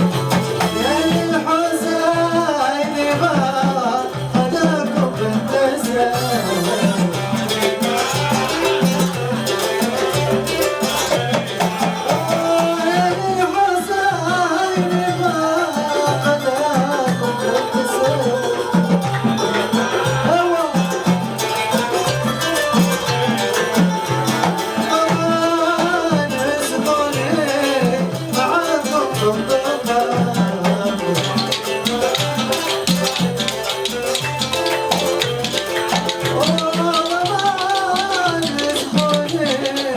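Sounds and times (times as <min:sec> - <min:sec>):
man singing: 0:00.0 - 0:39.9
percussion and bass beat: 0:00.0 - 0:39.9
shaker rattles: 0:03.5 - 0:39.9.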